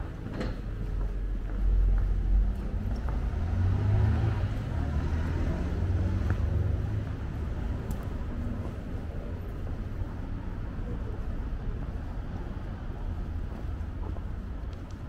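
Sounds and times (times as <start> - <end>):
vehicles passing with low rumble: 0.0 - 15.0.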